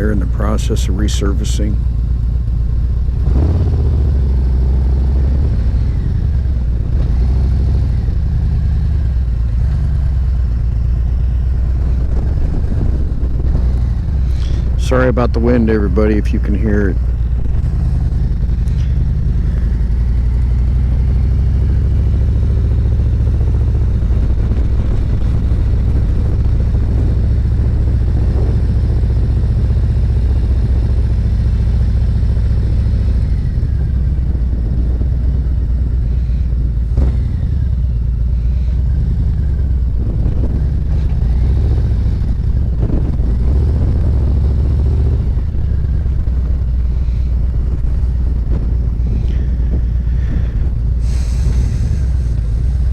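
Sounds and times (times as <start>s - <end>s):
motorcycle engine running: 0.0s - 52.9s
wind rumble on microphone: 0.0s - 52.9s.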